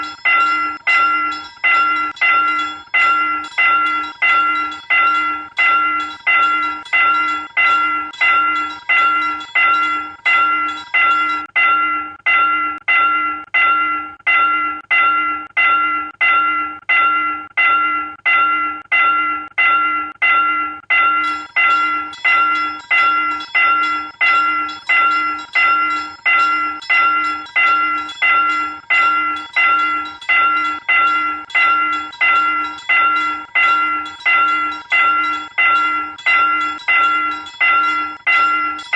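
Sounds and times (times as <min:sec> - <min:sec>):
railroad crossing bell ringing: 0:00.0 - 0:38.9.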